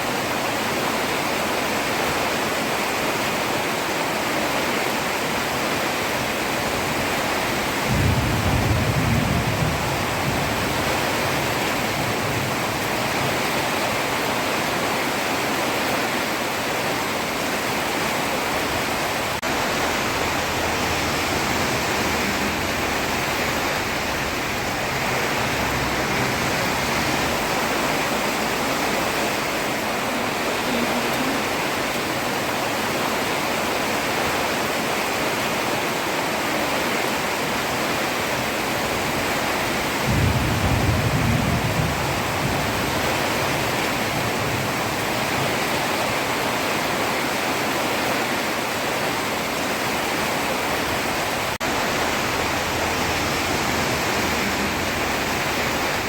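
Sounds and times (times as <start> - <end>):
heavy rain on a road: 0.0 - 56.0.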